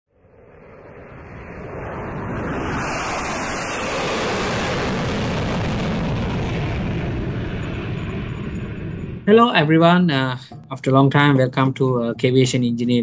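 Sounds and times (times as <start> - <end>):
jet aircraft rushing noise: 0.2 - 13.0.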